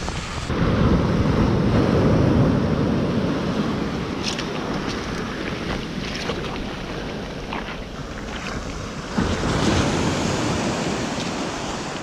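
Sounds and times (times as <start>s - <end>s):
sea surf washing on beach: 0.0s - 12.0s
wind buffeting microphone: 0.0s - 12.0s.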